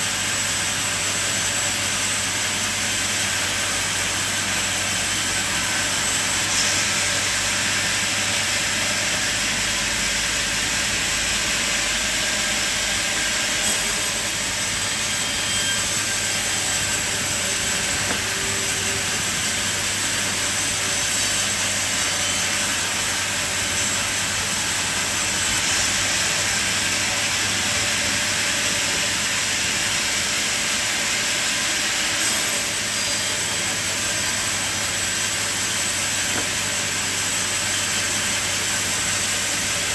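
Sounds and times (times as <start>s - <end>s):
sawmill machine hissing and humming: 0.0s - 39.9s.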